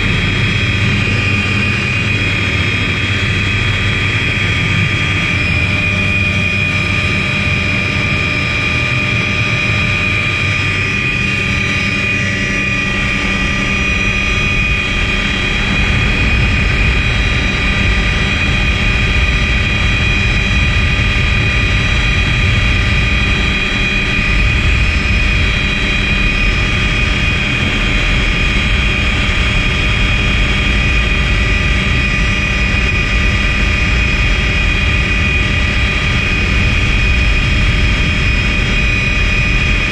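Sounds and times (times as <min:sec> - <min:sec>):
helicopter engine whine: 0:00.0 - 0:39.9
helicopter rotor rumble: 0:00.0 - 0:39.9.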